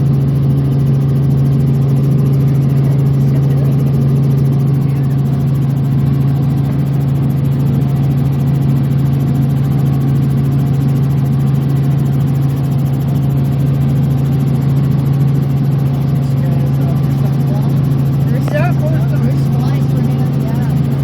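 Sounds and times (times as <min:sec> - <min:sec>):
aircraft engine humming: 0:00.0 - 0:21.0.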